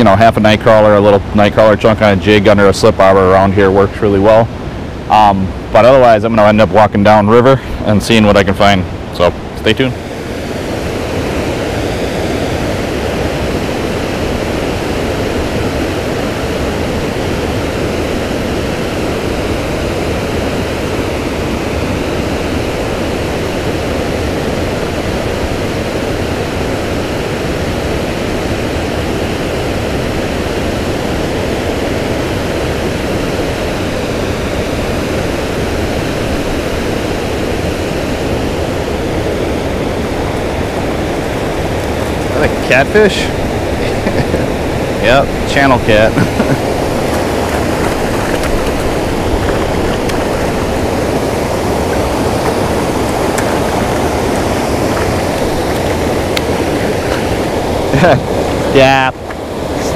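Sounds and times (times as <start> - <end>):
water rushing over dam: 0.0 - 59.9.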